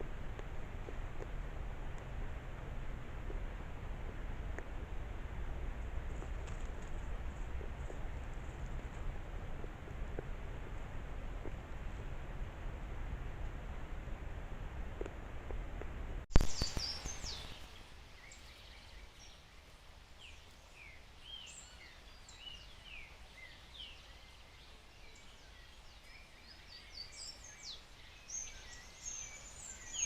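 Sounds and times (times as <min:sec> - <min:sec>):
low hiss: 0:00.0 - 0:30.0.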